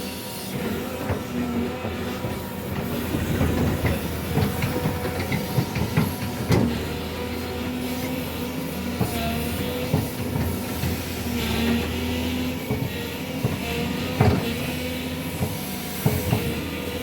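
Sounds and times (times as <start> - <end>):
heavy machine engine running: 0.0 - 17.0
knocks and clanks: 0.6 - 8.2, 9.0 - 16.7.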